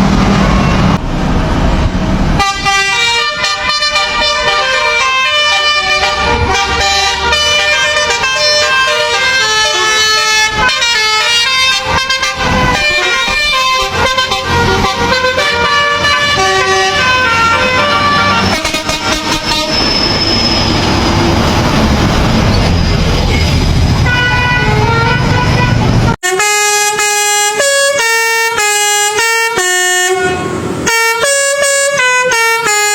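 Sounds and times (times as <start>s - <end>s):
passing traffic: 0.0s - 32.9s
truck musical horn melody: 2.4s - 19.9s, 24.0s - 32.9s.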